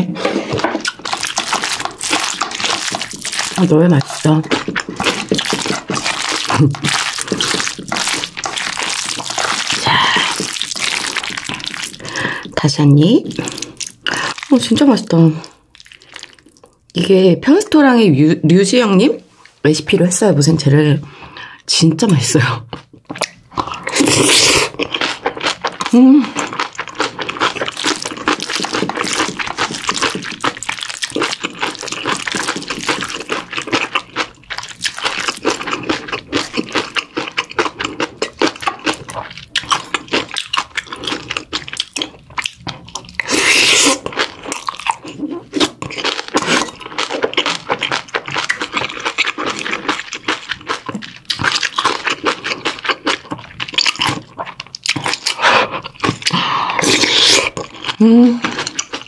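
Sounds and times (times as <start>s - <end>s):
wet crunchy chewing: 0.0s - 17.0s, 22.1s - 59.0s.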